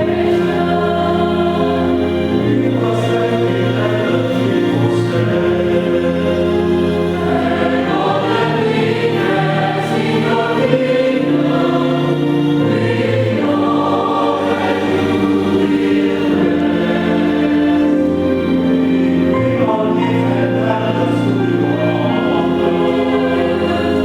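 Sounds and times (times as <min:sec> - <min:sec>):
choir singing in harmony: 0:00.0 - 0:24.0.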